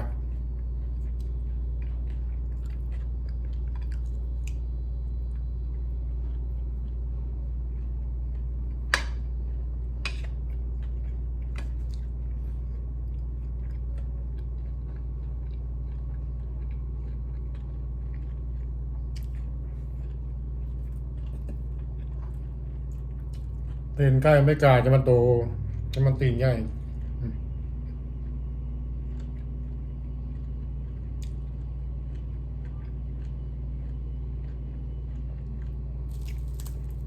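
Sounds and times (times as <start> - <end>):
chewing crispy food: 0.0 - 37.0
steady low hum: 0.0 - 37.0.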